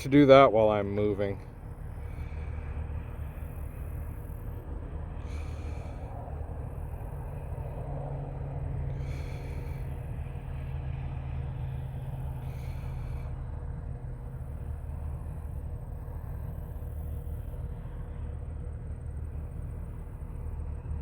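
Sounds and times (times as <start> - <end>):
farm vehicle engine droning: 0.0 - 21.0.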